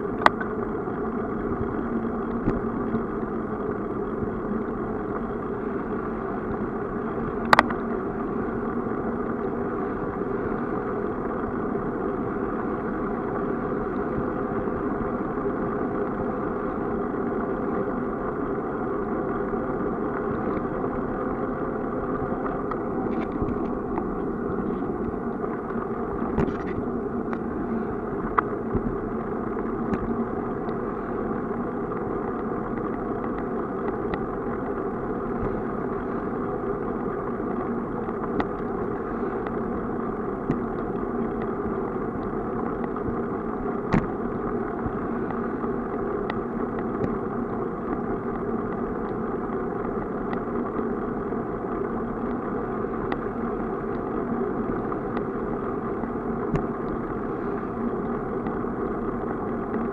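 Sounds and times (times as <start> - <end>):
bicycle rolling on asphalt: 0.0 - 59.9.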